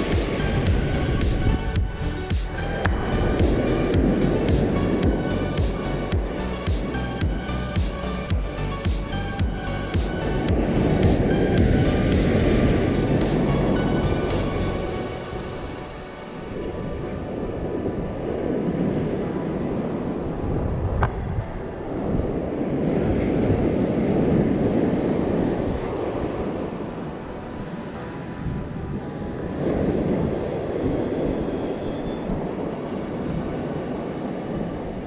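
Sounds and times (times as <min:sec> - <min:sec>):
wind and sea rushing: 0:00.0 - 0:35.0.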